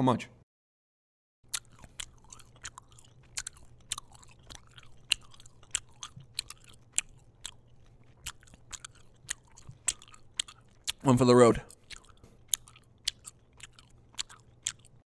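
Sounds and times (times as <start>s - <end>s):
faint low hum: 1.5s - 15.0s
wet gum chewing smacks: 1.5s - 15.0s.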